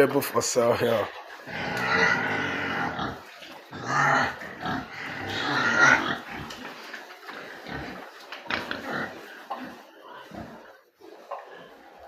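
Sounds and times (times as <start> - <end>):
pigs squealing: 1.1 - 12.0.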